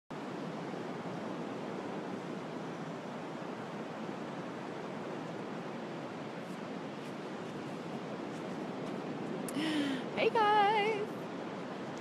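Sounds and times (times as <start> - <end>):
ocean surf breaking: 0.2 - 12.0.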